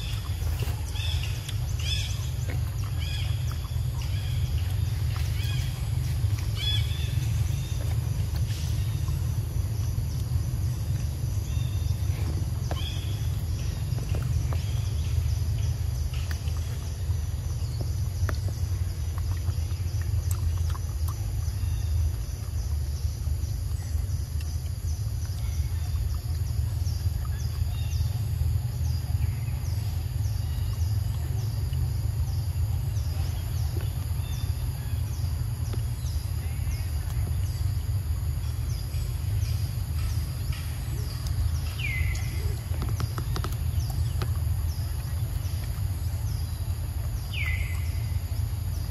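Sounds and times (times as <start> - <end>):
birds chirping: 0.0 - 48.9
monkey chewing: 0.0 - 48.9
steady low rumble: 0.0 - 48.9.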